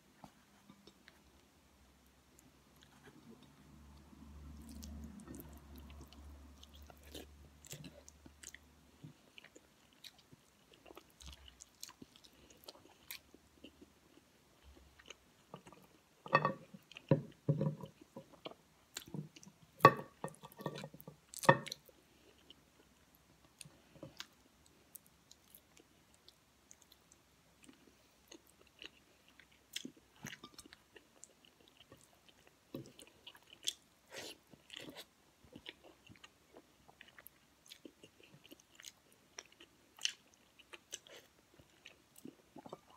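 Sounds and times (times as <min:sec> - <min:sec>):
person chewing food: 0:02.3 - 0:42.9.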